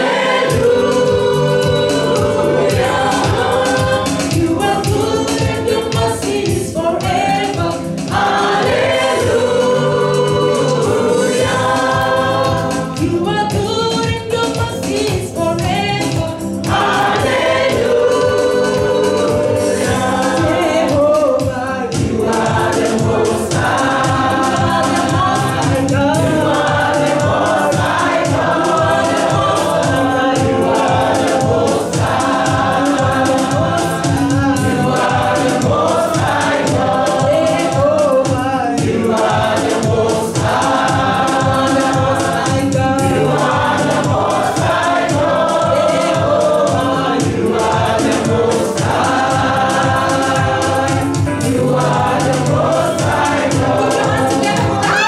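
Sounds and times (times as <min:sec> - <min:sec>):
choir singing gospel song: 0:00.0 - 0:55.0
steady beat: 0:00.0 - 0:55.0.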